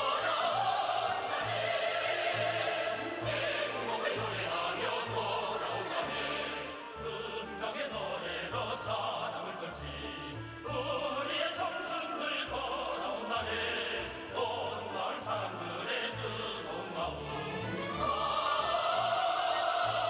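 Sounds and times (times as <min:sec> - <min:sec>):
operatic singing voices: 0:00.0 - 0:20.0
orchestral music: 0:00.0 - 0:20.0.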